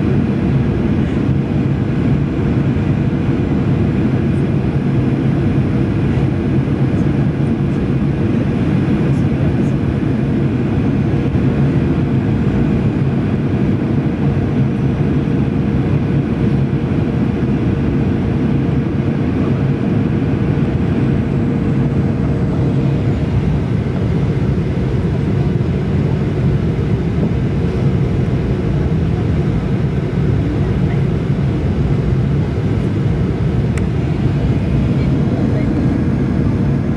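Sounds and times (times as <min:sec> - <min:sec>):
constant low hum: 0:00.0 - 0:36.9
jet engine and airflow rumble: 0:00.0 - 0:36.9.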